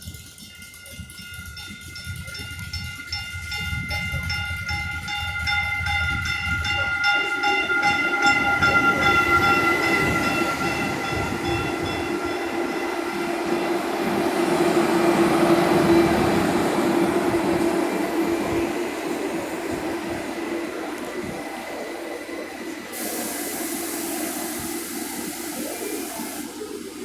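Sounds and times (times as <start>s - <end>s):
railroad crossing bell ringing: 0.0s - 27.0s
train engine rumble: 0.0s - 27.0s.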